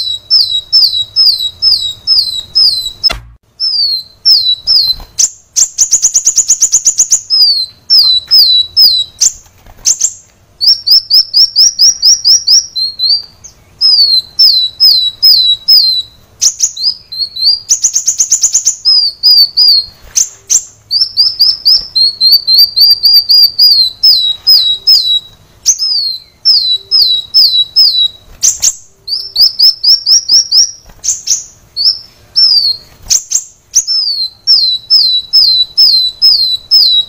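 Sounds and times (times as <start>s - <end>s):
sunbird singing: 0.0s - 37.0s.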